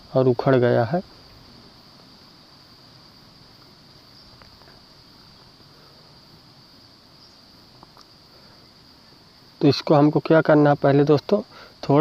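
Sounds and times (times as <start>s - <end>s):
high-pitched room tone hiss: 0.0s - 12.0s.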